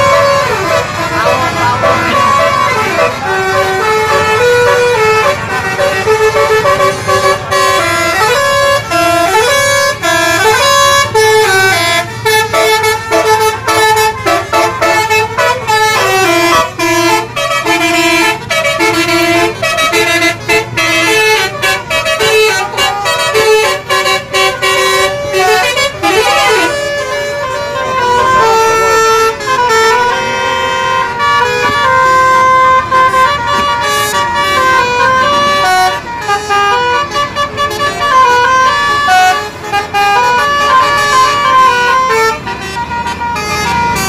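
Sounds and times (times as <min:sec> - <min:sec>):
multi-tone bus horn melody: 0:00.0 - 0:44.0.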